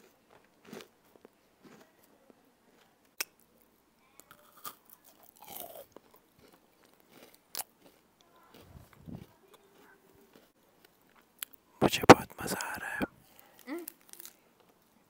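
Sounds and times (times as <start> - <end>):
chewing and crunching cookies: 0.0 - 15.0.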